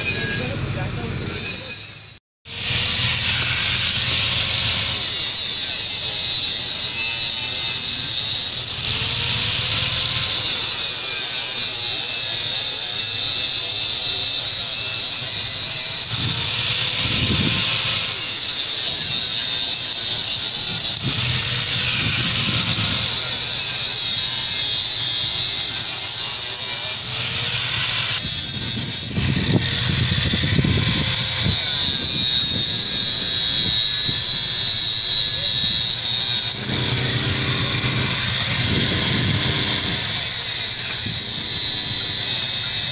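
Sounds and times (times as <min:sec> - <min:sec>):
angle grinder cutting wire rope: 0:00.0 - 0:42.9.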